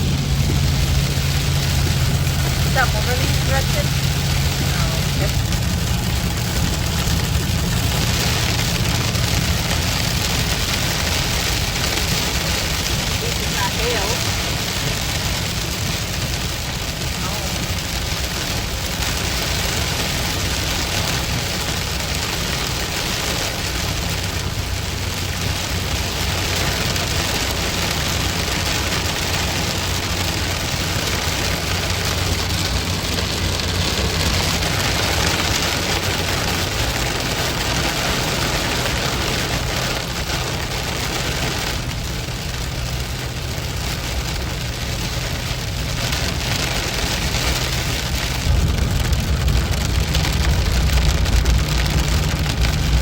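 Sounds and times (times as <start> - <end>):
engine and road hum: 0.0 - 53.0
rain drumming on a car: 0.0 - 53.0.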